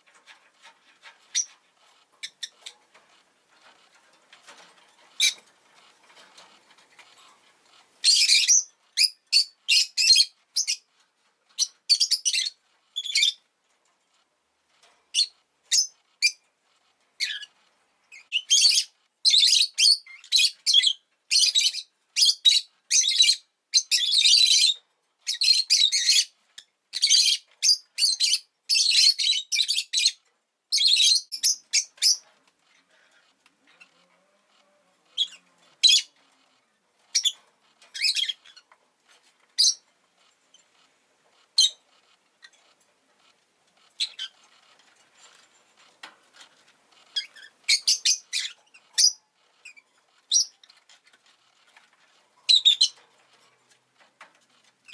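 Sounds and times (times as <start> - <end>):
birds chirping: 0.0 - 3.1, 8.0 - 10.9, 11.6 - 13.4, 17.2 - 40.8, 41.4 - 54.9.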